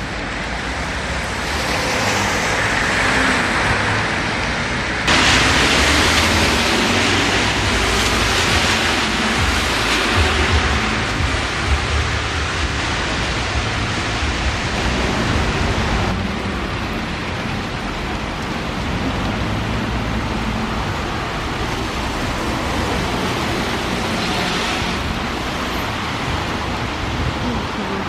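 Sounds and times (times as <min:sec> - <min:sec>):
rain on wet pavement: 0:00.0 - 0:28.0
tyres hissing on wet road: 0:00.0 - 0:28.0.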